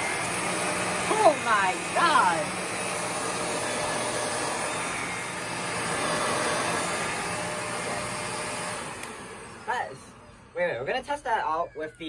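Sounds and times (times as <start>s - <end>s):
vacuum cleaner running on carpet: 0.0s - 10.5s.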